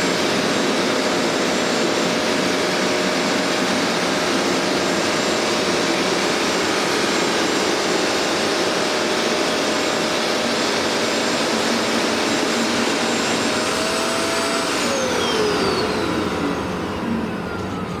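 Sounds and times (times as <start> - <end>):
rushing air: 0.0 - 16.9
suction motor whining: 0.0 - 18.0.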